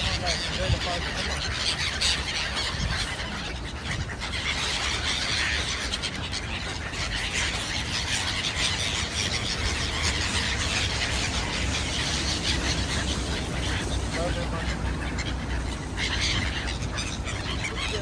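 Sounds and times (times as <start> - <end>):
birds chirping: 0.0 - 18.0
low steady rumble: 1.8 - 18.0.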